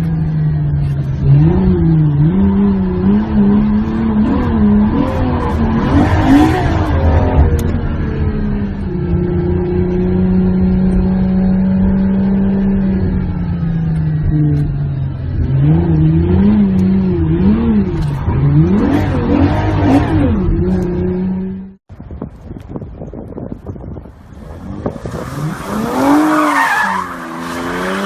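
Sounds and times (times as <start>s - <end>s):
car engine revving: 0.0s - 21.8s, 24.3s - 28.0s.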